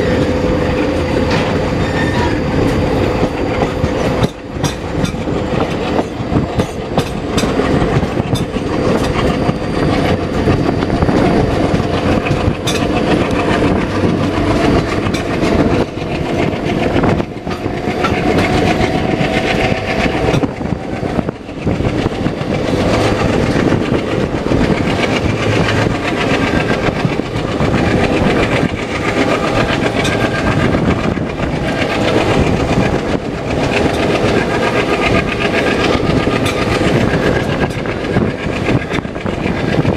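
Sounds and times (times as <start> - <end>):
locomotive engine drone: 0.0 - 39.9
train wheels clattering: 0.0 - 39.9.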